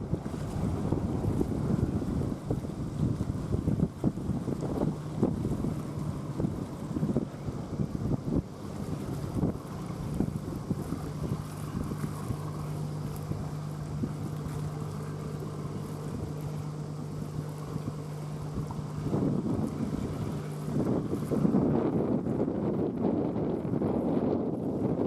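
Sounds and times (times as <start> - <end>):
low engine hum: 0.0 - 25.0
wind buffeting microphone: 0.0 - 25.0.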